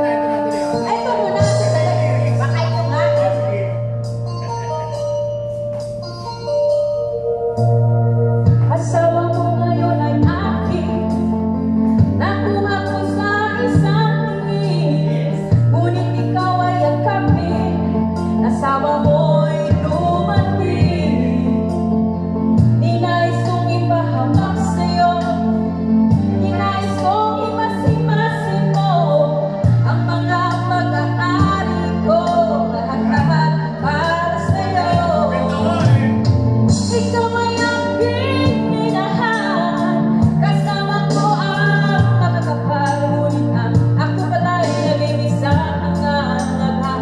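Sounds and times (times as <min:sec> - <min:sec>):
woman singing into a microphone: 0:00.0 - 0:03.5, 0:08.4 - 0:47.0
karaoke backing track: 0:00.0 - 0:47.0.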